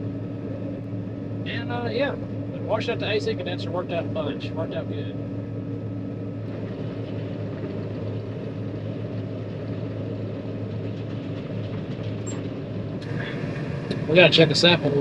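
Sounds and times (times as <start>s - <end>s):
combine harvester engine droning: 0.0s - 15.0s.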